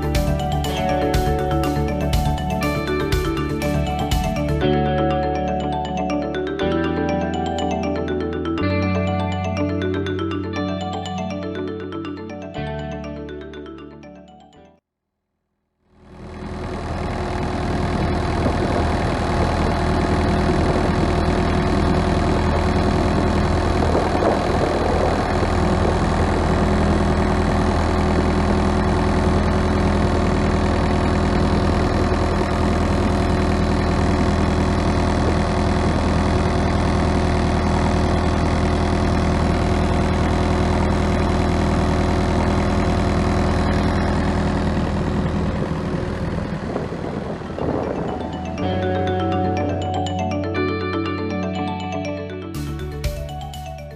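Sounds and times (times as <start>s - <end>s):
refrigeration unit diesel engine drone: 0.0s - 11.9s, 15.9s - 53.9s.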